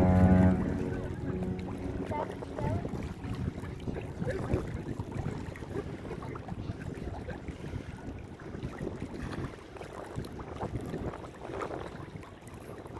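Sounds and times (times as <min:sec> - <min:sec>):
low rumble of harbour noise: 0:00.0 - 0:12.9
wind buffeting microphone: 0:00.0 - 0:12.9.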